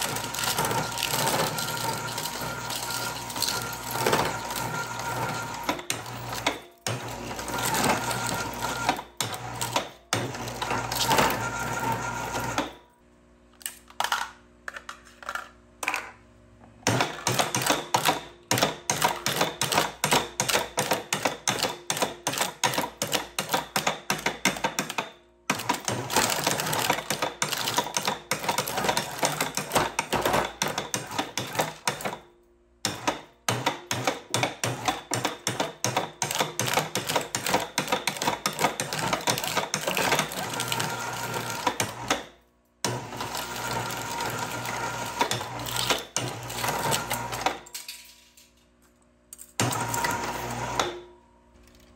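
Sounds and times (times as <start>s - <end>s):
shredder crunching cans: 0.0s - 12.8s, 16.7s - 47.8s, 49.5s - 51.9s.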